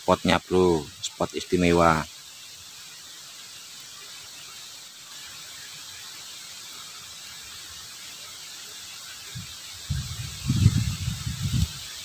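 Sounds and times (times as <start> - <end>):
water flowing in a ditch: 0.0 - 12.0.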